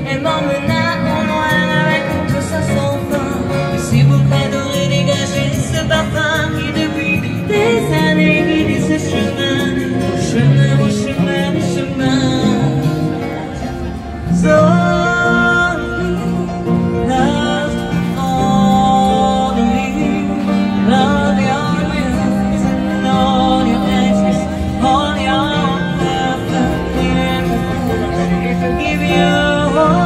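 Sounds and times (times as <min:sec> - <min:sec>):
strummed acoustic guitar: 0:00.0 - 0:30.0
woman singing into microphone: 0:00.0 - 0:30.0.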